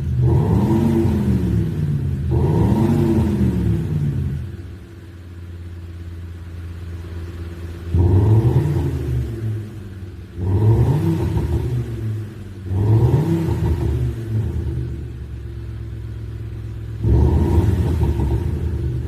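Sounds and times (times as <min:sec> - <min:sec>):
synthetic exhaust idling and revving: 0:00.0 - 0:19.0.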